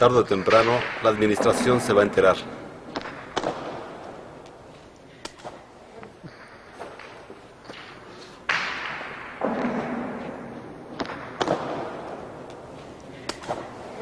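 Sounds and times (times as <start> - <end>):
ball strikes echoing in hall: 0.0 - 14.0
sharp small cracks: 0.4 - 14.0.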